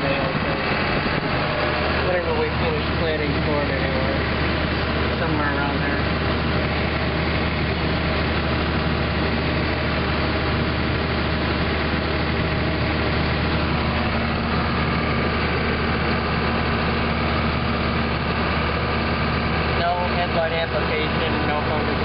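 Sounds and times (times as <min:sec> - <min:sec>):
combine harvester engine running: 0:00.0 - 0:22.0
high machine whine: 0:00.0 - 0:22.0.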